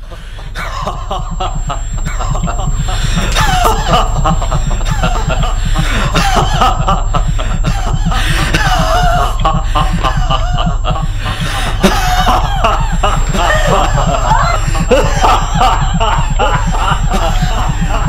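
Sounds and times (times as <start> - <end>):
film soundtrack with low pulse: 0.0 - 18.0
man laughing and vocalising: 0.0 - 18.0.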